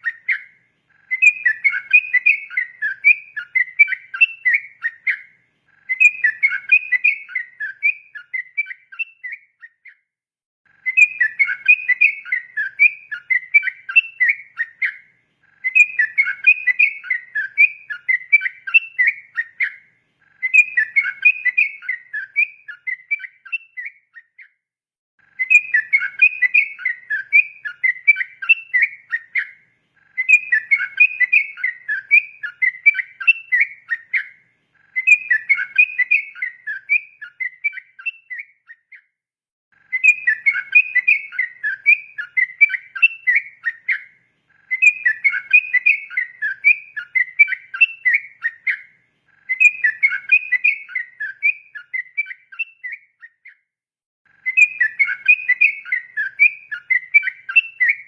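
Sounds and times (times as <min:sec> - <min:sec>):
bulbul singing bubbling whistles: 0:00.0 - 0:09.9, 0:10.8 - 0:15.0, 0:15.6 - 0:19.8, 0:20.4 - 0:24.4, 0:25.4 - 0:29.6, 0:30.2 - 0:34.4, 0:35.0 - 0:39.0, 0:39.9 - 0:44.1, 0:44.7 - 0:48.9, 0:49.5 - 0:53.6, 0:54.4 - 0:58.0.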